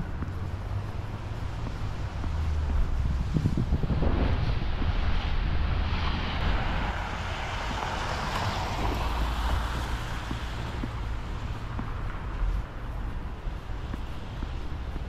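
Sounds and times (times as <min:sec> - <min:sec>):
passing car tyre noise: 0:00.0 - 0:15.0
wind rumbling on microphone: 0:00.0 - 0:15.0.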